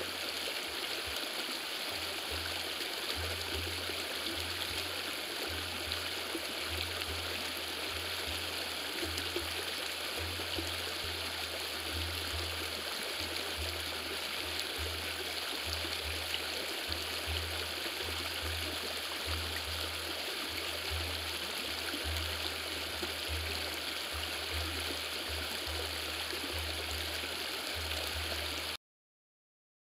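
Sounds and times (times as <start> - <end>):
river water rushing: 0.0 - 28.8
low pulsing throb: 2.0 - 28.6.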